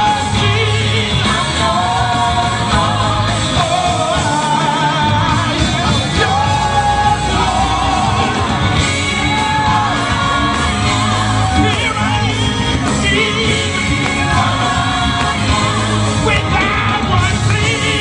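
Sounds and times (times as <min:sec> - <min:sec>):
gospel choir singing: 0:00.0 - 0:18.0
live band with bass: 0:00.0 - 0:18.0.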